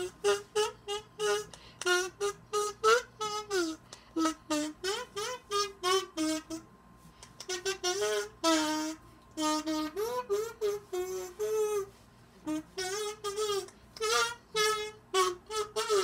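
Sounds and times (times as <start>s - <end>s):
kazoo playing a tune: 0.0s - 16.0s.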